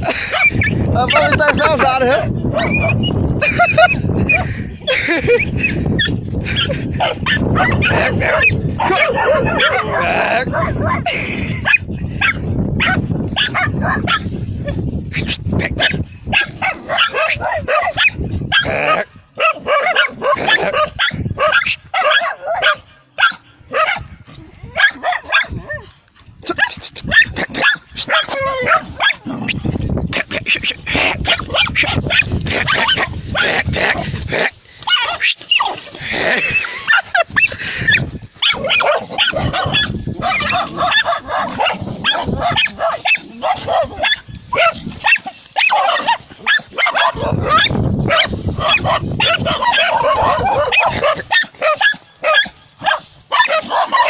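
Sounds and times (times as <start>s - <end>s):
dogs barking and yelping: 0.0s - 54.0s.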